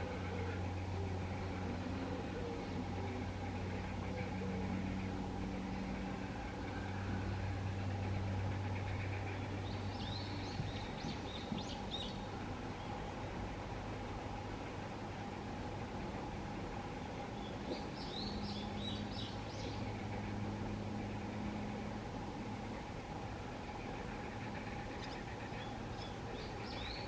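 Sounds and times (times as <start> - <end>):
distant propeller plane drone: 0.0 - 27.0.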